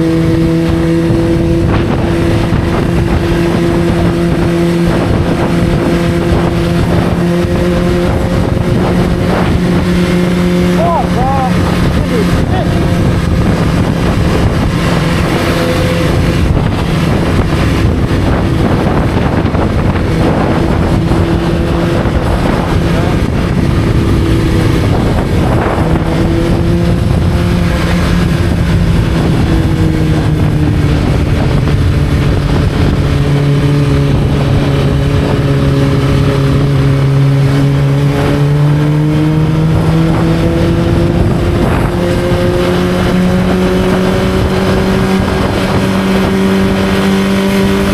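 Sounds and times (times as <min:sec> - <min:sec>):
motorcycle engine running: 0:00.0 - 0:47.9
wind noise on microphone: 0:00.0 - 0:47.9.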